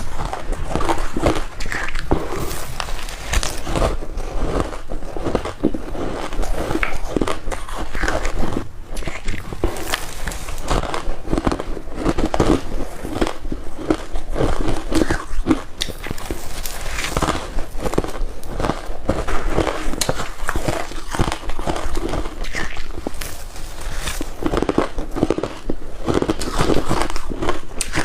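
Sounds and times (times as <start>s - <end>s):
ice crunching being bitten: 0.0s - 28.0s.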